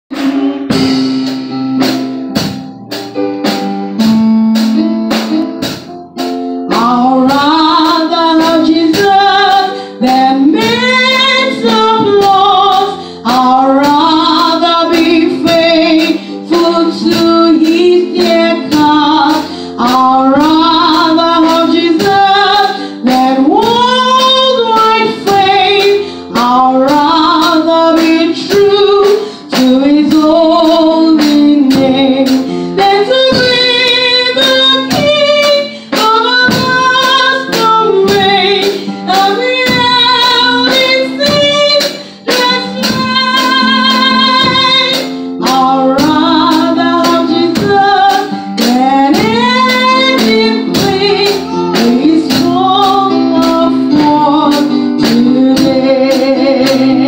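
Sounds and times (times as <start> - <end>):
instrumental accompaniment with beat: 0.1 - 57.0
woman singing into a microphone: 6.7 - 57.0.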